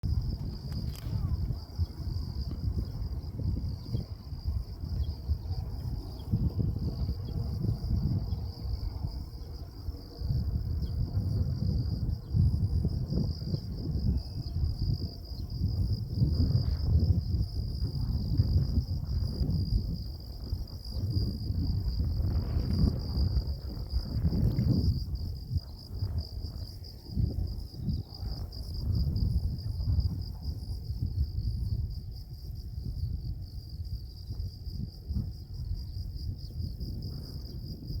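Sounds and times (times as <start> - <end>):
wind buffeting microphone: 0.0 - 38.0
insect chorus trilling: 0.1 - 38.0.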